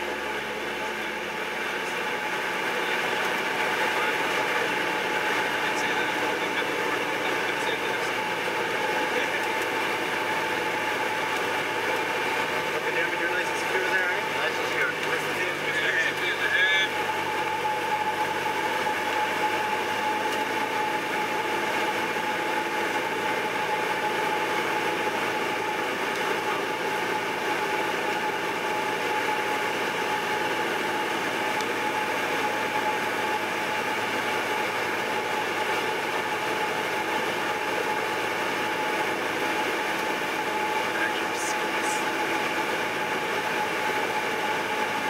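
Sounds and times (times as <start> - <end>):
constant whine: 0.0 - 45.0
propeller plane engine droning: 0.0 - 45.0.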